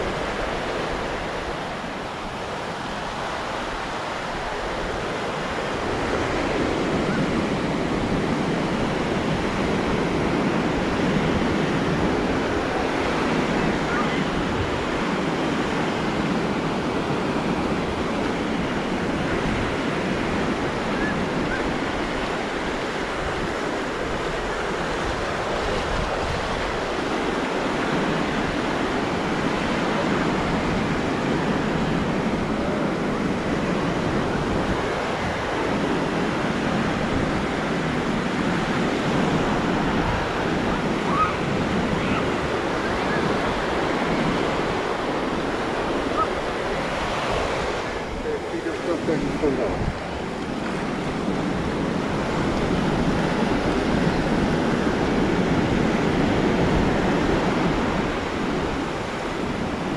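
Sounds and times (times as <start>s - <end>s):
surf washing up a beach: 0.0s - 59.9s
wind on microphone: 0.0s - 59.9s.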